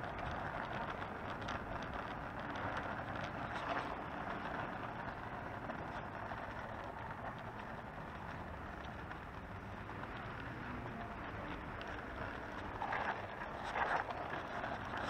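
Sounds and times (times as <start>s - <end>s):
kick scooter rolling on asphalt: 0.0s - 15.0s
light rattles and clicks: 0.0s - 15.0s.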